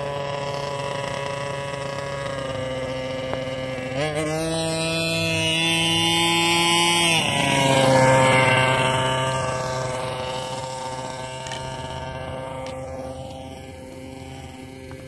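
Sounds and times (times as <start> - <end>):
small two-stroke engine revving: 0.0 - 15.0.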